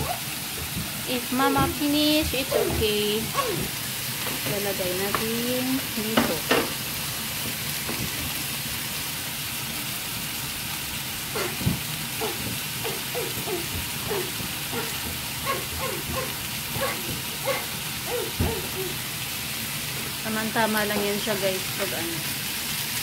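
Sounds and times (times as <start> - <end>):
steaks sizzling in hot oil: 0.0 - 23.0.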